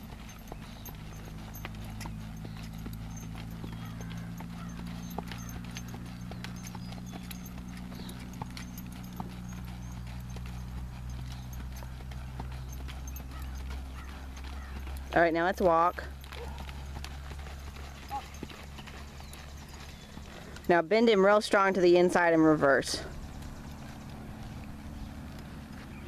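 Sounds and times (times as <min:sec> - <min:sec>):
hoofbeats on dirt: 0:00.0 - 0:26.0
steady low hum: 0:00.0 - 0:26.0.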